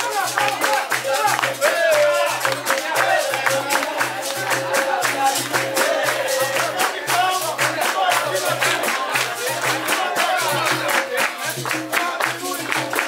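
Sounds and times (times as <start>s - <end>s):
berimbaus and pandeiro rhythm: 0.0s - 13.0s
group singing: 0.0s - 13.0s
hand clapping: 0.0s - 13.0s.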